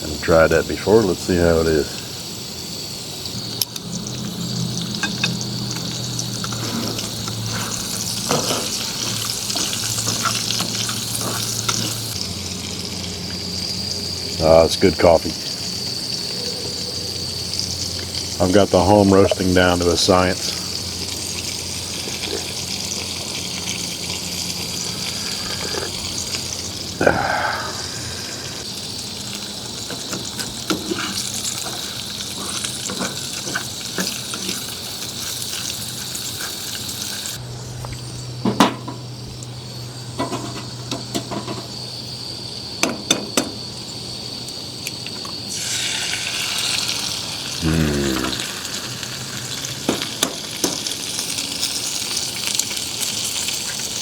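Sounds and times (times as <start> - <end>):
food sizzling in a frying pan: 0.0 - 37.4, 38.0 - 54.0.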